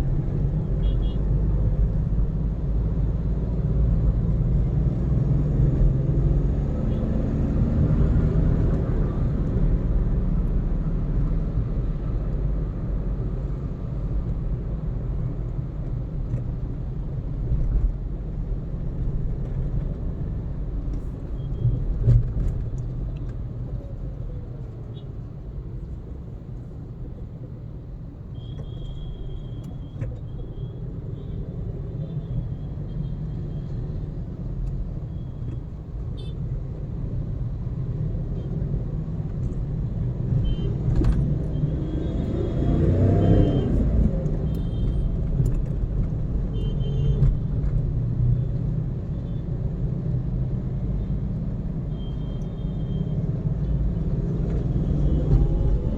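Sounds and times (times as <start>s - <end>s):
car engine and tyres rumbling: 0.0s - 55.9s.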